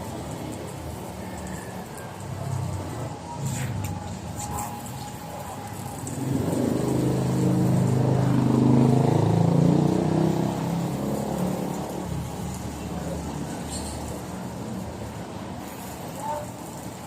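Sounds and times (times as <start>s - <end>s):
vehicle engine running: 2.2s - 16.0s.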